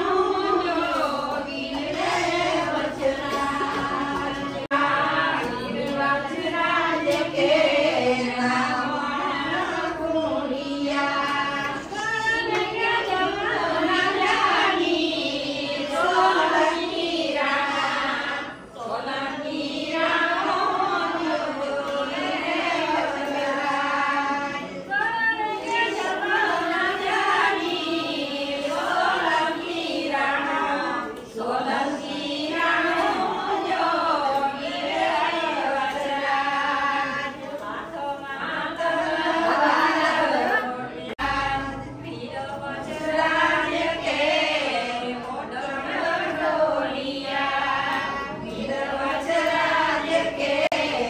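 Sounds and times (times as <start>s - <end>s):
women singing together: 0.0s - 51.0s.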